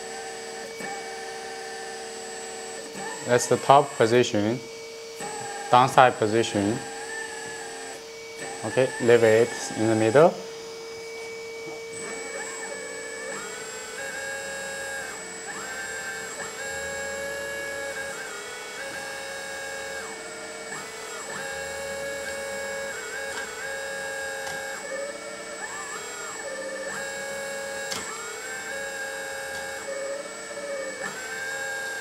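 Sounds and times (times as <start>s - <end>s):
hydraulic pump whining: 0.0s - 32.0s.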